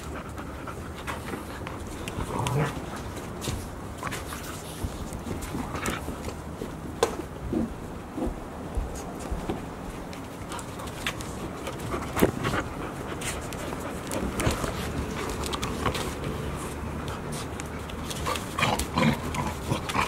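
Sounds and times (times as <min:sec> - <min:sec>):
puppies panting: 0:00.0 - 0:06.4, 0:10.2 - 0:20.0
puppies playing and wrestling: 0:00.0 - 0:20.0.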